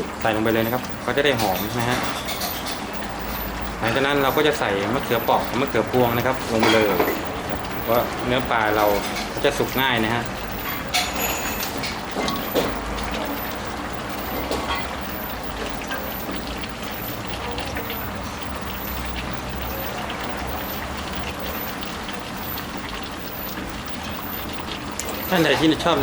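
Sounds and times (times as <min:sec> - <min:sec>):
curry bubbling in a pan: 0:00.0 - 0:26.0.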